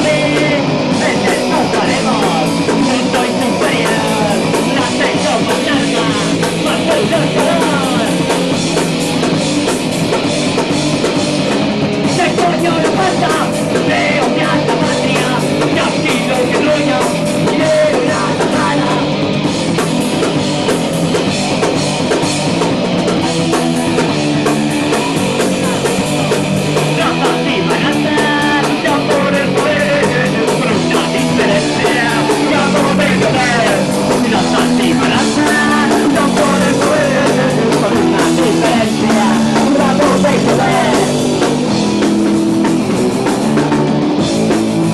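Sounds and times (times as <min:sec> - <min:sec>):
live rock band: 0:00.0 - 0:44.9.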